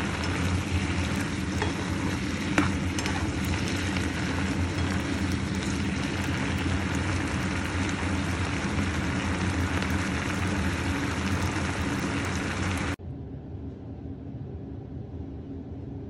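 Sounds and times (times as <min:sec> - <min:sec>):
stew bubbling and sizzling: 0:00.0 - 0:13.0
low mechanical hum: 0:00.0 - 0:16.0.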